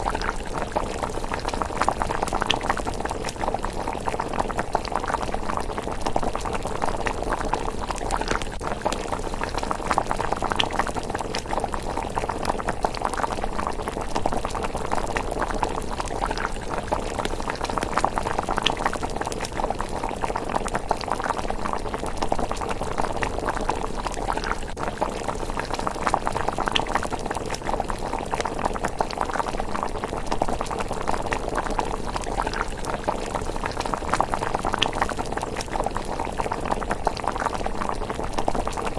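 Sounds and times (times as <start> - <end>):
porridge bubbling in a pot: 0.0 - 38.9.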